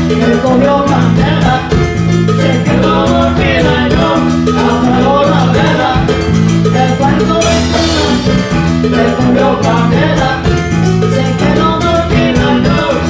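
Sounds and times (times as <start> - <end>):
latin band playing: 0.0 - 13.0.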